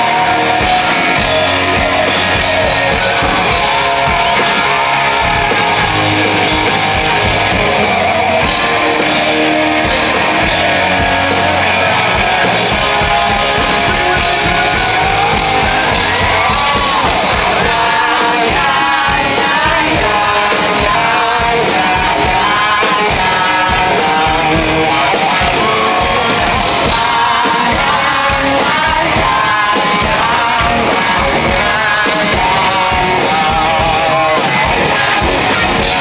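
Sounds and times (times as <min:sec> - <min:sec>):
drums: 0:00.0 - 0:36.0
electric guitars: 0:00.0 - 0:36.0
man singing: 0:00.0 - 0:36.0.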